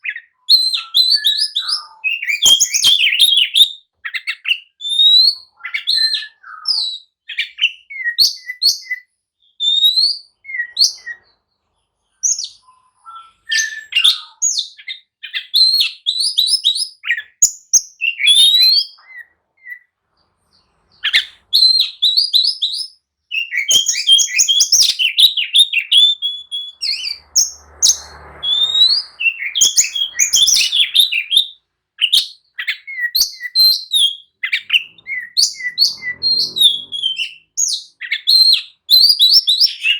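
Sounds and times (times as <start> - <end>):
bird singing chirps and whistles: 0.0 - 11.3, 12.2 - 19.9, 20.5 - 39.9.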